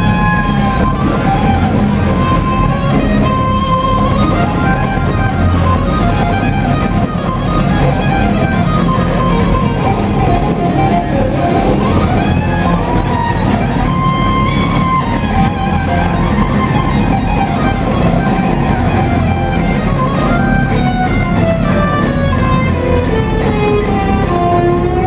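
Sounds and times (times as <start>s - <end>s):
bending electric guitar notes: 0.0s - 25.0s
live rock band playing: 0.0s - 25.0s.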